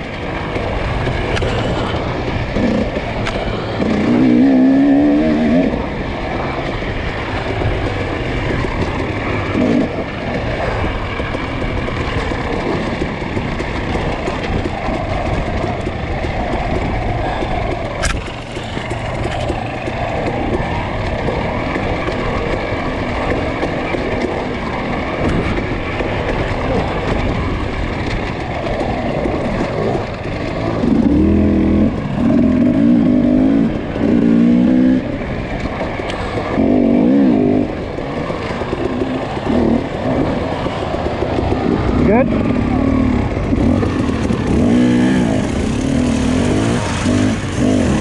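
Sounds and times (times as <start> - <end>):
dirt bike engine revving: 0.6 - 24.0, 28.2 - 48.0.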